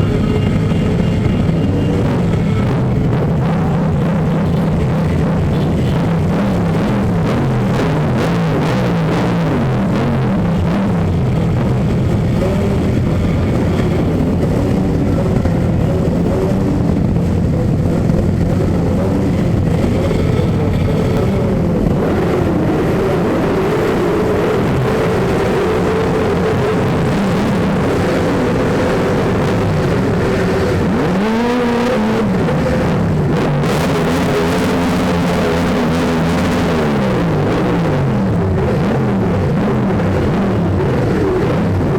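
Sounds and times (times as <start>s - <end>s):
motorcycle engine revving: 0.0s - 41.9s
motorcycle engines running: 0.0s - 41.9s.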